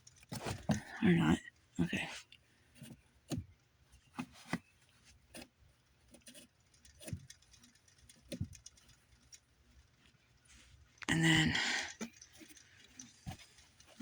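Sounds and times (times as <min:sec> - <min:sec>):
faint rustling: 0:00.0 - 0:14.0.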